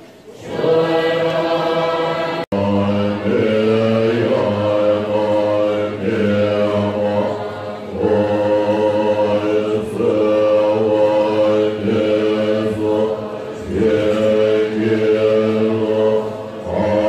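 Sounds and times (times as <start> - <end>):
monks chanting in unison: 0.3 - 17.0.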